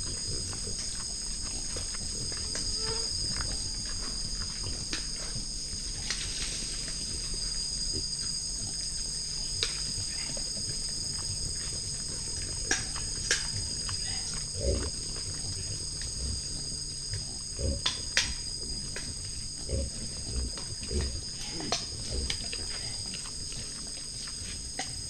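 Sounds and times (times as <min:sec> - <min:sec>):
animals chewing and crunching: 0:00.0 - 0:25.0
high-pitched insect chorus: 0:00.0 - 0:25.0.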